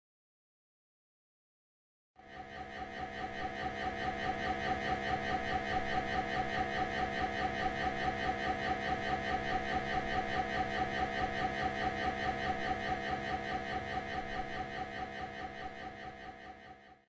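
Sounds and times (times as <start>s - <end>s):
mri scanner electronic pulsing: 2.2s - 17.0s.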